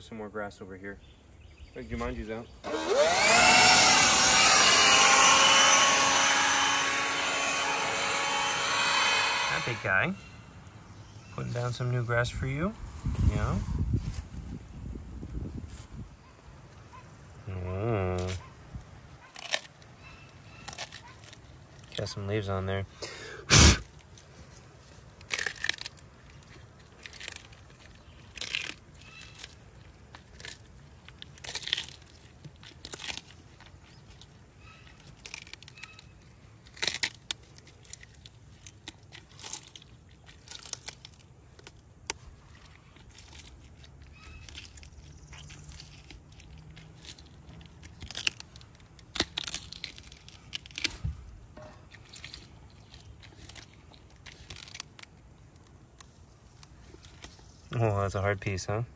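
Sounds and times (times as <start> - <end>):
tortoise chewing cactus: 1.4 - 14.6, 15.4 - 58.9.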